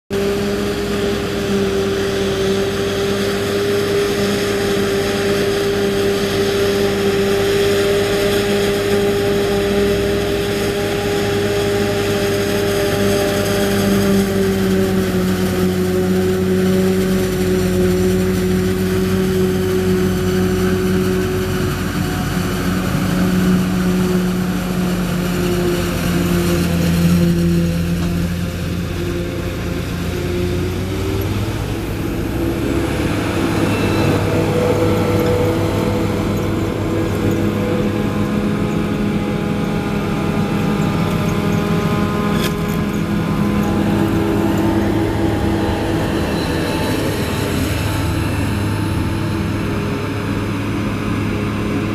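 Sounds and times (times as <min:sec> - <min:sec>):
forage harvester whining drone: 0:00.1 - 0:51.9
tractor engine: 0:00.1 - 0:51.9.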